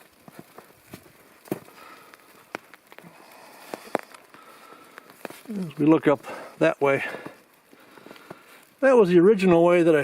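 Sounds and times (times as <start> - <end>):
footsteps crunching on snow: 0.0 - 8.6
faint outdoor air hiss: 0.0 - 10.0.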